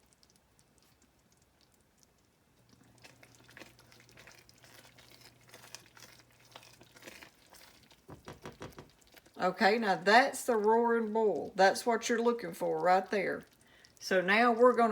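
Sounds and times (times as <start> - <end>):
butter and sugar bubbling: 0.0 - 14.9.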